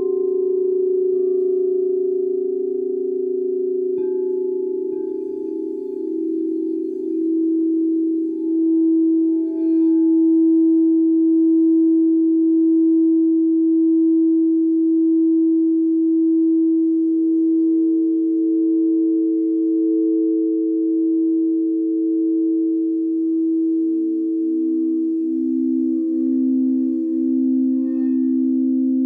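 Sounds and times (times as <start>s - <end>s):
lower singing bowl pulsing: 0.0s - 29.0s
singing bowl tone: 0.0s - 29.0s.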